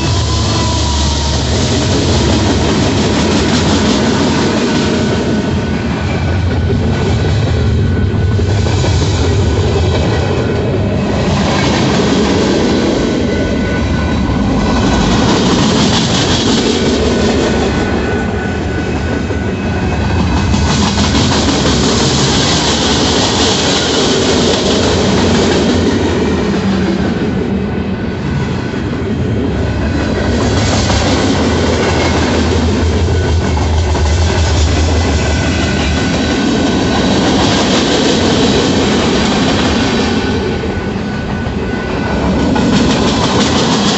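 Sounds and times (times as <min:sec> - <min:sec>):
hissing wheel-on-rail noise: 0:00.0 - 0:43.9
train wheels rumbling and clattering: 0:00.0 - 0:43.9.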